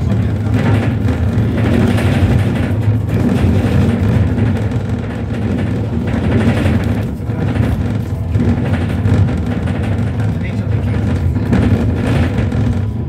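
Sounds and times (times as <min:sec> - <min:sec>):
bus road rumble: 0:00.0 - 0:13.0.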